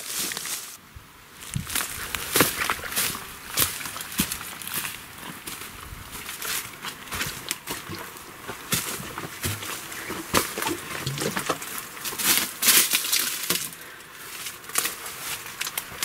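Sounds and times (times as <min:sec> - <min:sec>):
footsteps crunching on dry leaves: 0:00.0 - 0:00.8, 0:01.4 - 0:16.0.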